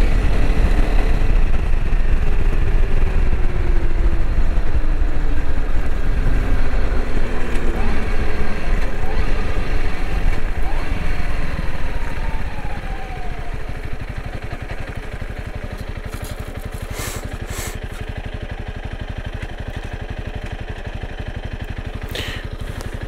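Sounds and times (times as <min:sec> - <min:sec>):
motorcycle engine slowing and idling: 0:00.0 - 0:23.0.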